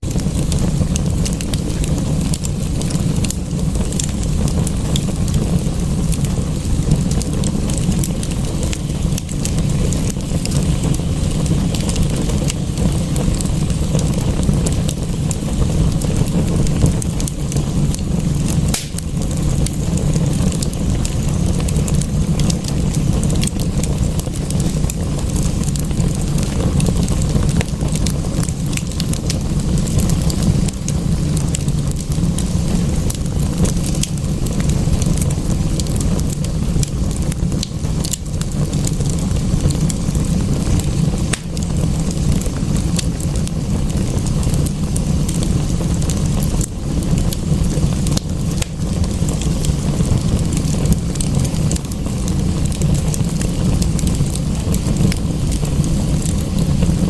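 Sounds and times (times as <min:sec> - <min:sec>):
rain rushing: 0:00.0 - 0:57.0
wood fire crackling and popping: 0:00.0 - 0:57.0.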